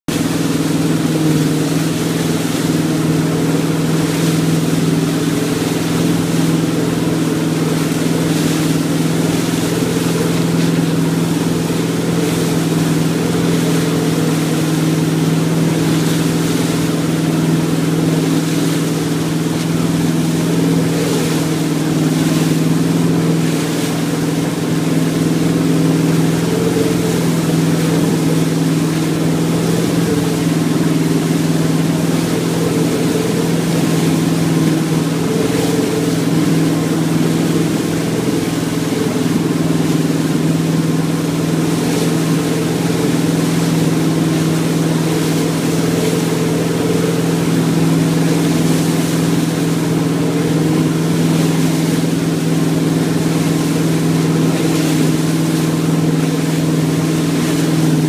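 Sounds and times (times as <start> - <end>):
churning wake water: 0.0 - 58.0
motorboat engine running: 0.0 - 58.0.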